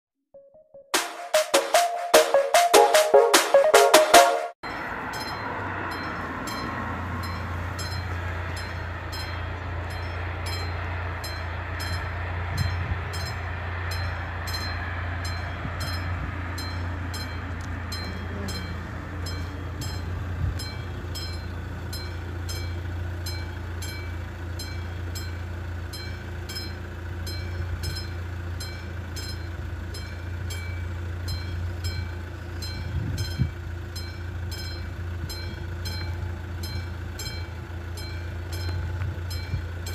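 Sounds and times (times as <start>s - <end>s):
level crossing warning bell ringing: 4.6s - 39.9s.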